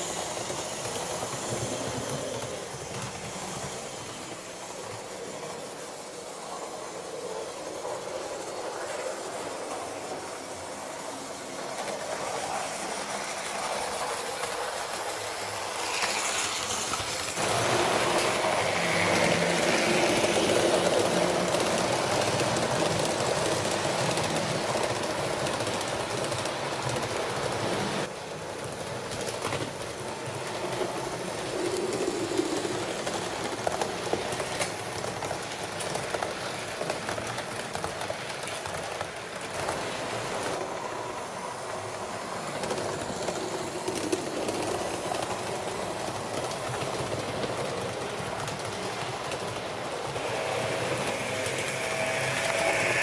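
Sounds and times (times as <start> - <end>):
train rumbling on track: 0.0 - 53.0.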